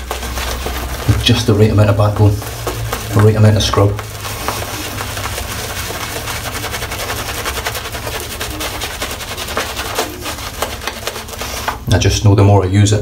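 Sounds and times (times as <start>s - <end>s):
shaving brush lathering: 0.0s - 11.9s.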